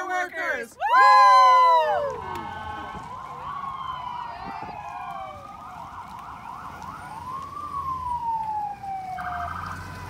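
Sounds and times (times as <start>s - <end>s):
emergency vehicle siren: 0.9s - 10.0s.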